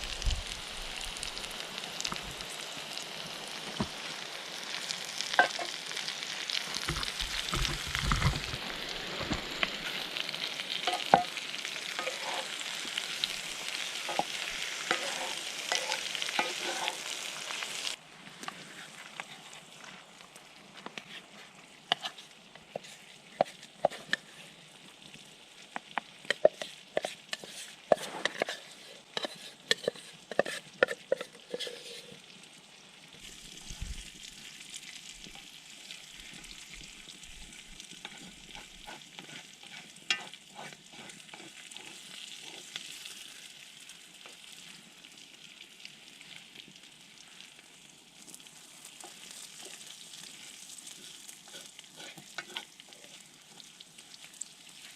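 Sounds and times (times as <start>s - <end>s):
food frying in a pan: 0.0s - 54.9s.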